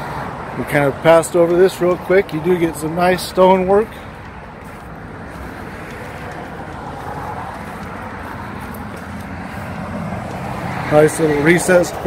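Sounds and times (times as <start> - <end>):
highway traffic rush: 0.0 - 12.0.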